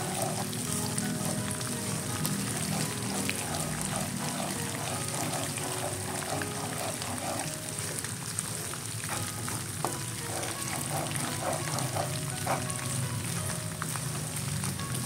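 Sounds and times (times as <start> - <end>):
spatula scraping a wok: 0.0 - 13.2
paste frying in hot oil: 0.0 - 15.0.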